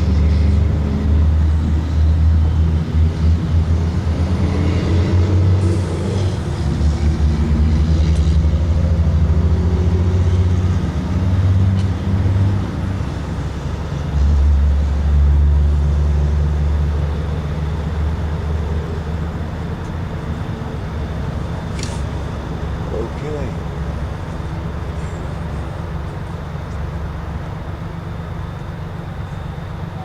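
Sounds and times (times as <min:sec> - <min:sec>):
vehicle engines rumbling: 0:00.0 - 0:30.0.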